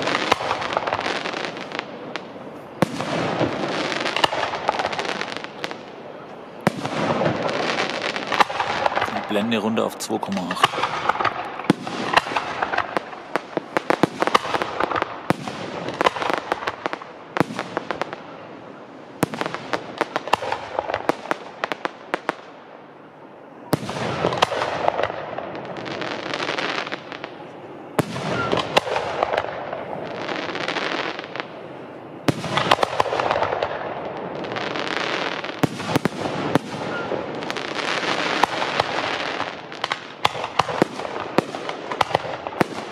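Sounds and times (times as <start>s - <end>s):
loud firework bursts: 0.0s - 23.0s, 23.7s - 42.9s
fireworks bangs and crackling: 0.0s - 42.9s.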